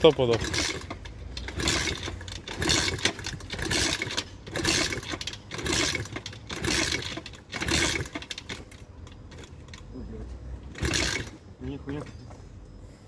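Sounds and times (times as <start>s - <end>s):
motorbike engine kick-started: 0.0s - 9.9s, 10.6s - 11.4s.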